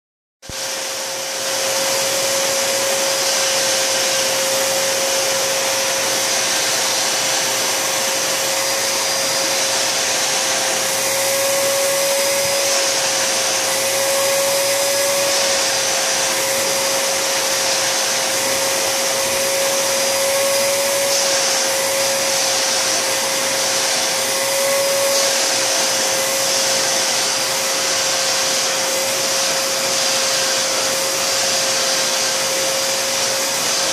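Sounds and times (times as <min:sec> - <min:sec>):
vacuum cleaner running: 0:00.4 - 0:33.9.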